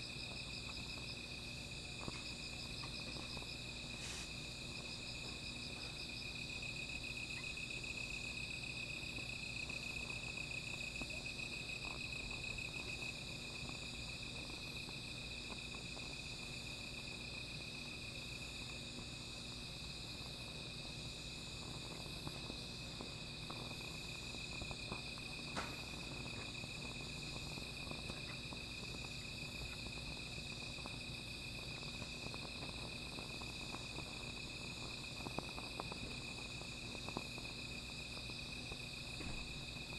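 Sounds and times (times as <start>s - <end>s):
night insects trilling: 0.0s - 39.9s
small fire crackling: 0.0s - 39.9s.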